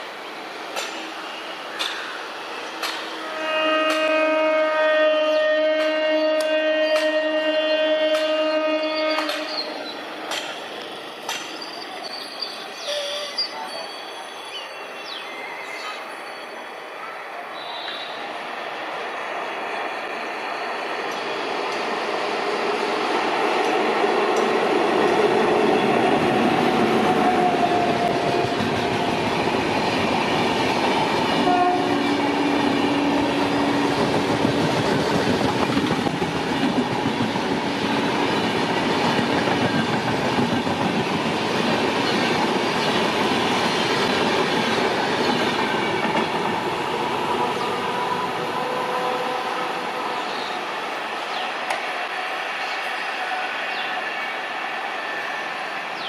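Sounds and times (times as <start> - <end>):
train wheels rushing on rails: 0.0 - 56.0.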